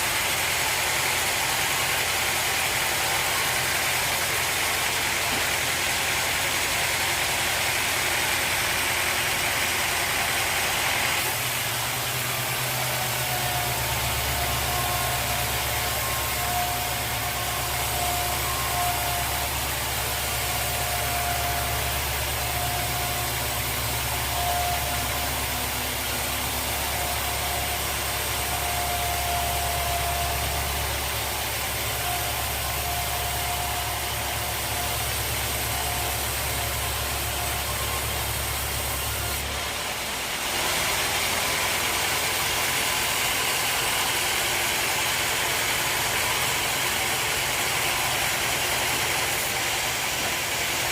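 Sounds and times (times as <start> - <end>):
high machine whine: 0.0 - 50.9
sawmill machinery hum: 0.0 - 50.9.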